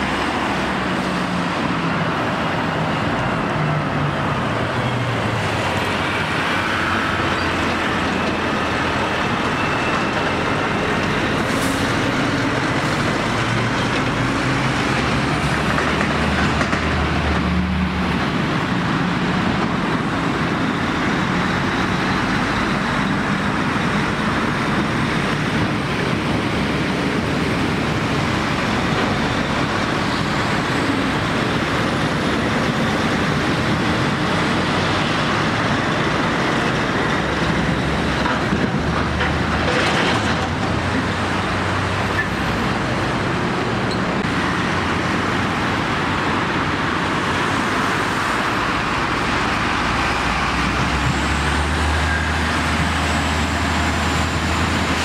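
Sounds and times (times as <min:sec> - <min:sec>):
lorry diesel engine and tyres: 0:00.0 - 0:55.0
passing road traffic: 0:00.0 - 0:55.0
truck approaching: 0:00.0 - 0:55.0.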